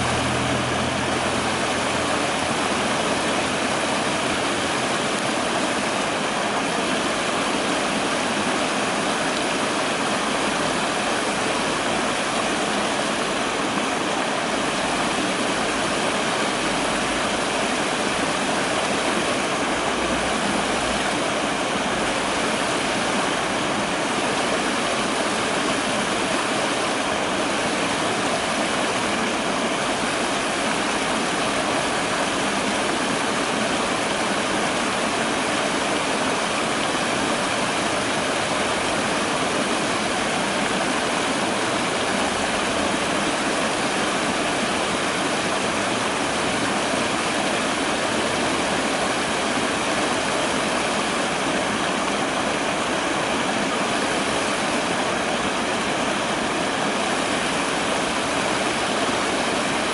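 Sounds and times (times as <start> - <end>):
stream water cascading over boulders: 0.0 - 59.9.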